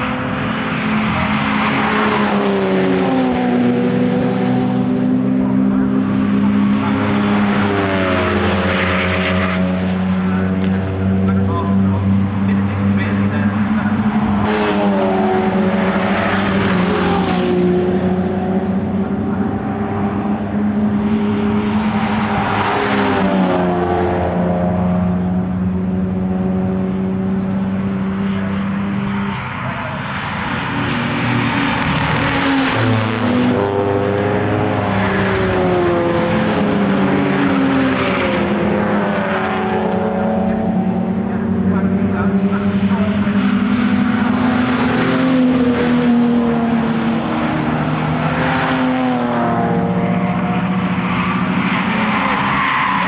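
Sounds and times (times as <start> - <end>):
racing cars passing at speed: 0.0 - 53.0.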